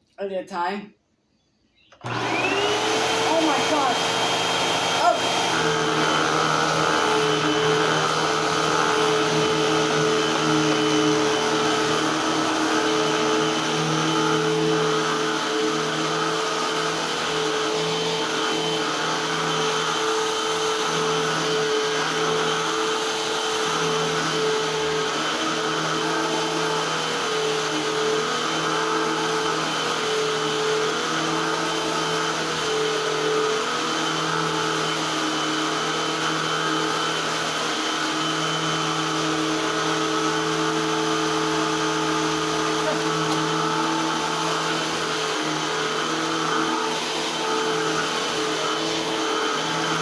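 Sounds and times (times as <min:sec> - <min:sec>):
vacuum cleaner running: 0:02.0 - 0:50.0.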